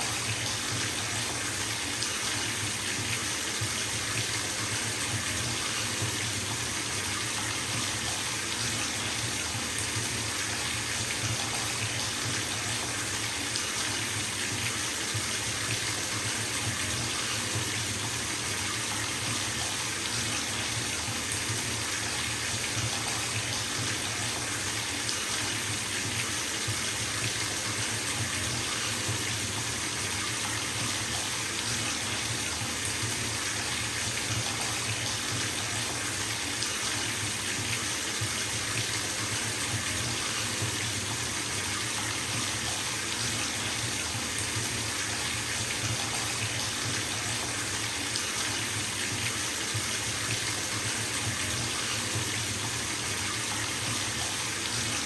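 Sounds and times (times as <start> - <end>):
tap water filling bathtub: 0.0 - 55.0.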